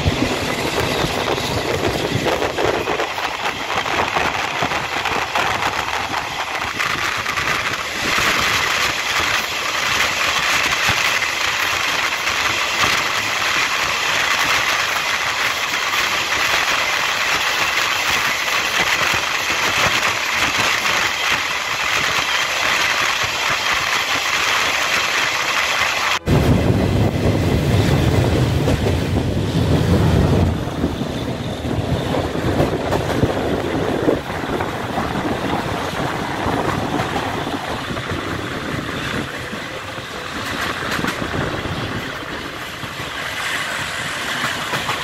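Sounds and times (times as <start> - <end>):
train roaring in tunnel: 0.0 - 45.0.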